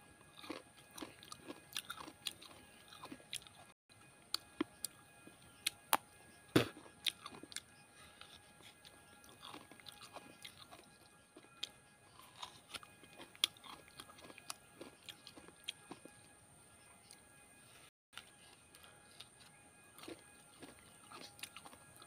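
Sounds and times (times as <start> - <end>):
person chewing crunchily: 0.3 - 16.2, 18.2 - 22.0.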